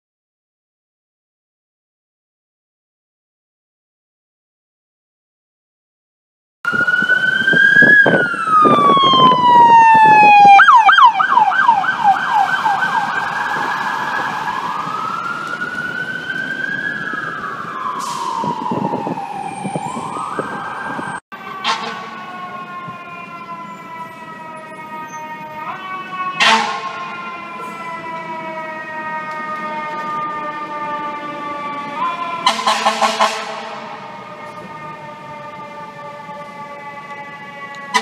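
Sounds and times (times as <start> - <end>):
fire truck siren wailing and yelping: 6.7 - 38.0
steady siren tone: 6.7 - 38.0.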